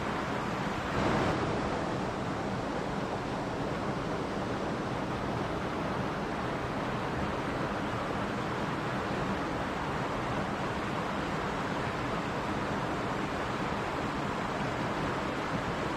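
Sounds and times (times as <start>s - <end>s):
stream rushing and splashing: 0.0s - 15.9s.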